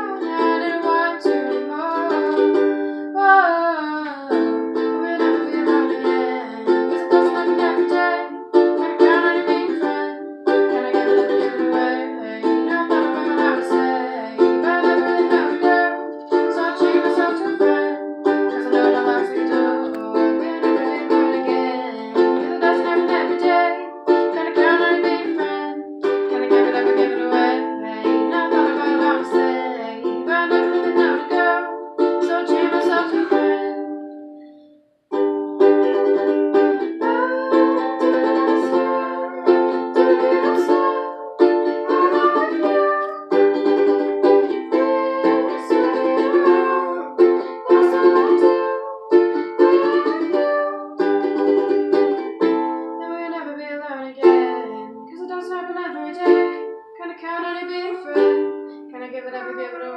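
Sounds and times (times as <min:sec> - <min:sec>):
ukulele strummed chords: 0:00.0 - 0:59.9.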